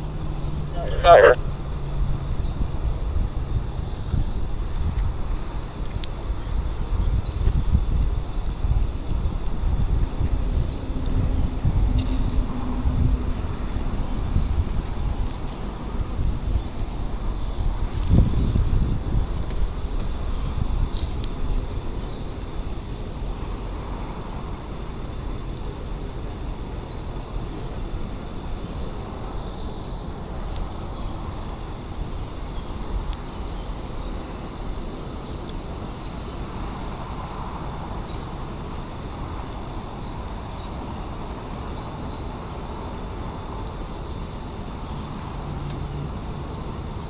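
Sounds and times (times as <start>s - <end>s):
insect chirping: 0.0s - 47.0s
wind rumble on microphone: 0.0s - 47.0s.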